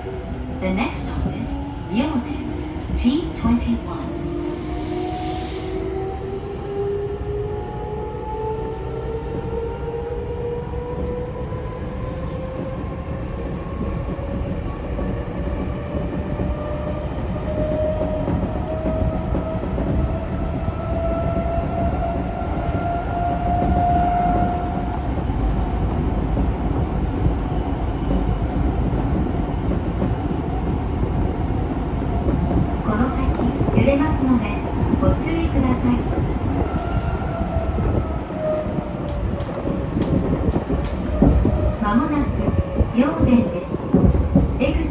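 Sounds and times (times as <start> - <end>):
wheels rumbling on rails: 0.0 - 44.9.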